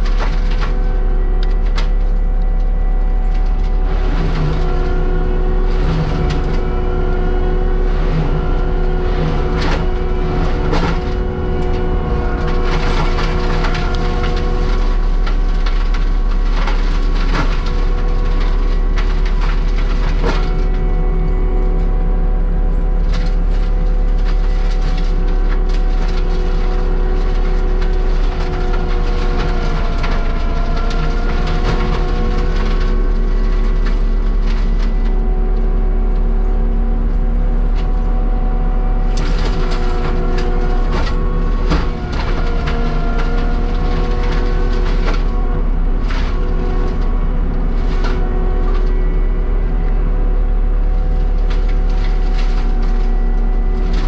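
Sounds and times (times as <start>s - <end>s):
wood cracking and snapping: 0.0s - 22.0s, 22.8s - 36.4s, 37.0s - 54.0s
heavy machinery running: 0.0s - 54.0s.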